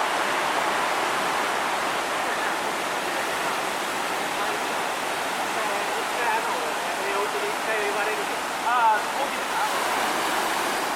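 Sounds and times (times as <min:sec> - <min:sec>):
heavy surf rushing: 0:00.0 - 0:10.9.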